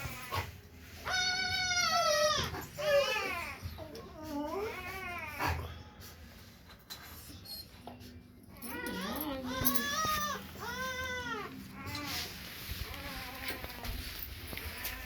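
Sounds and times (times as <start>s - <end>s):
puppy whining: 0.0s - 5.9s, 7.2s - 15.0s.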